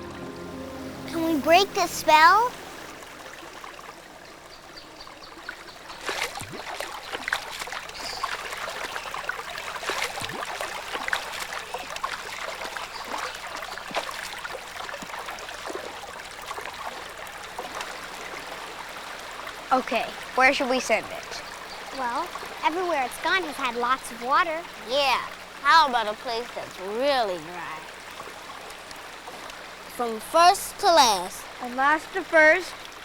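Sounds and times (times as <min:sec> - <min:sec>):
water trickling and gurgling: 0:00.0 - 0:33.0.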